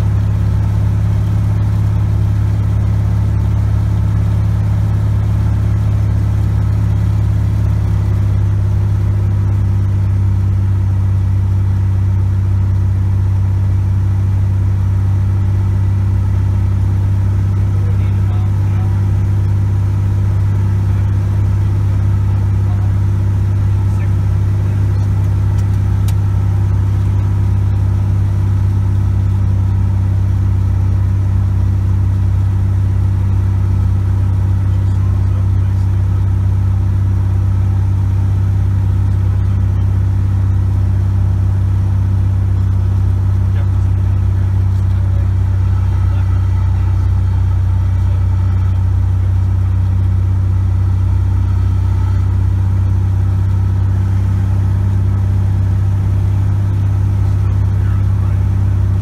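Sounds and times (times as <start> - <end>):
airplane engine droning: 0.0 - 59.0.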